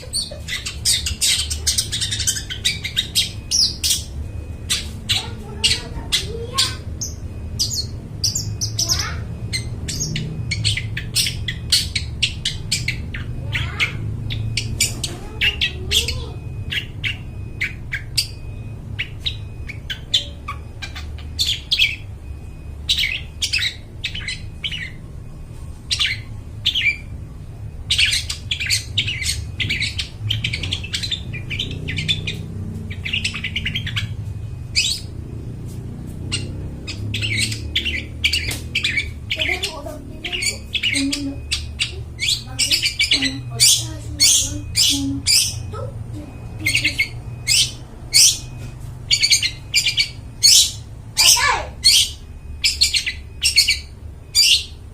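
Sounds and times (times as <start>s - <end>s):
shrike chirping and chattering: 0.0s - 54.9s.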